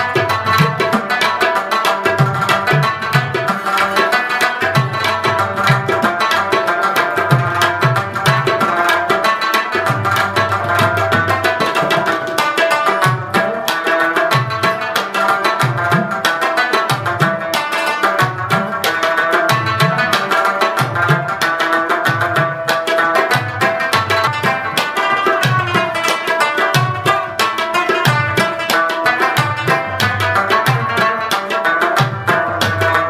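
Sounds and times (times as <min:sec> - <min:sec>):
held melodic line: 0:00.0 - 0:33.0
instrumental music with fast drums: 0:00.0 - 0:33.0.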